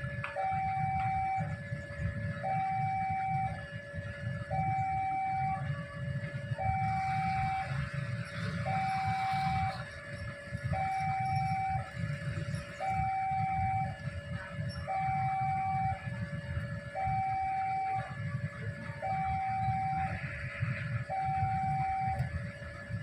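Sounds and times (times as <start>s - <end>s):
two-tone electronic warning alarm: 0.0s - 23.0s.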